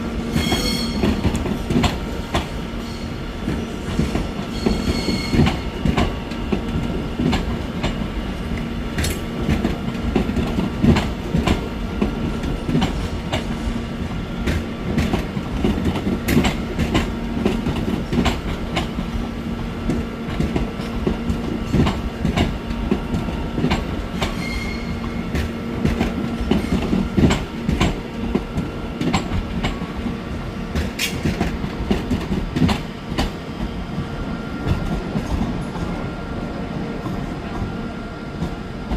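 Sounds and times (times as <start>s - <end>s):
steady train hum: 0.0s - 38.9s
train wheels clicking over rail joints: 0.4s - 33.7s.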